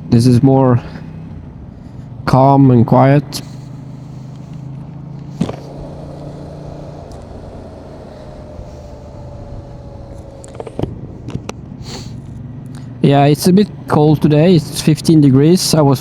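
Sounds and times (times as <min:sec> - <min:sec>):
faint whine: 0:00.0 - 0:15.5
motorcycle engine cruising: 0:00.0 - 0:16.0.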